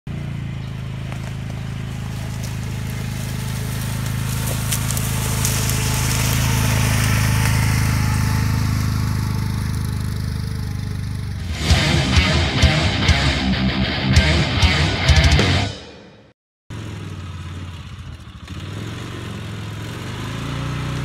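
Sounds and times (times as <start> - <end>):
utility vehicle engine running: 0.1 - 15.6, 16.7 - 21.0.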